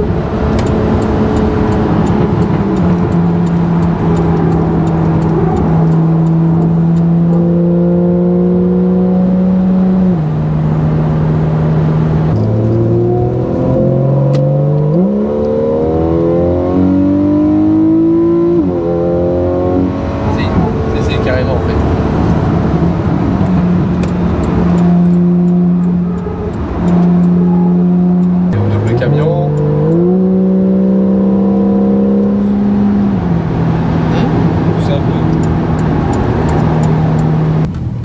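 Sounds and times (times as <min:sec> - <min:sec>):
car engine heard from cabin: 0:00.0 - 0:38.0.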